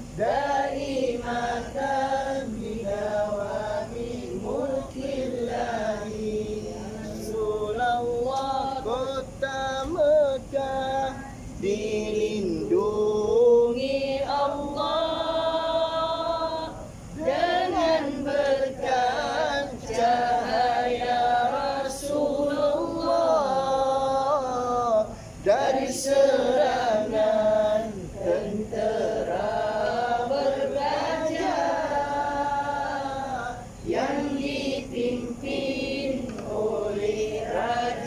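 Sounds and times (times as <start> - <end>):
man chanting unaccompanied: 0.0 - 38.0.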